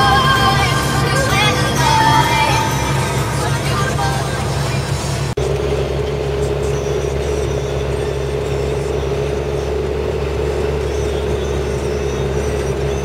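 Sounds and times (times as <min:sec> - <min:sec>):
steady whine: 0:00.0 - 0:13.0
tractor diesel engine running: 0:00.0 - 0:13.0.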